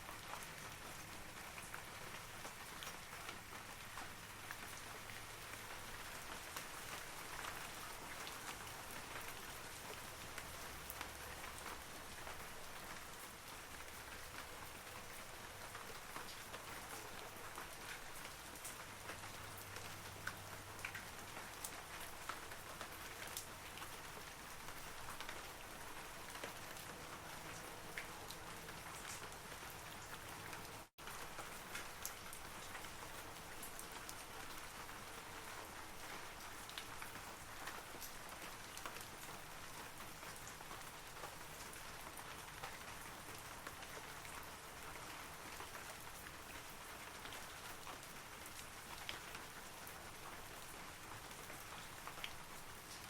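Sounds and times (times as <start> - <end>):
rain falling on trees: 0.0 - 53.0.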